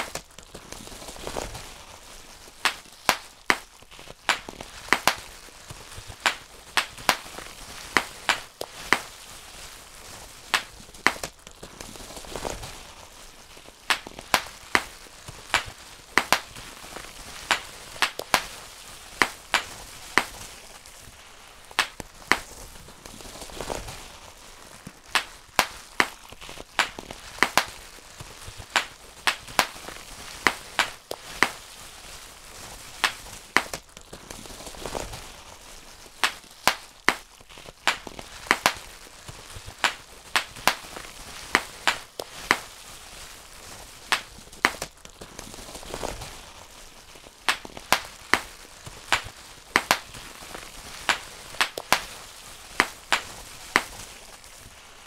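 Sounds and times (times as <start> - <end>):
bubble wrap popping: 0.0 - 55.0
plastic sheet crinkling: 0.0 - 55.0.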